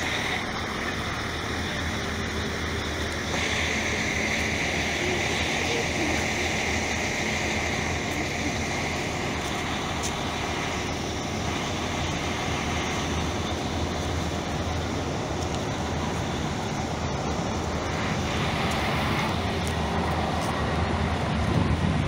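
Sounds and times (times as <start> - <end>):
moving train rumbling: 0.0 - 22.0.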